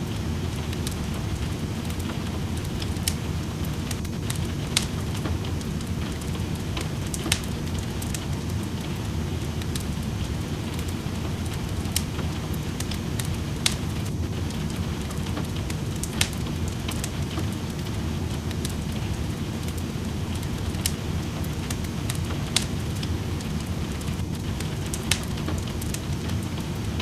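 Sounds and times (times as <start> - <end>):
rain hiss: 0.0 - 27.0
wood fire crackling: 0.0 - 27.0.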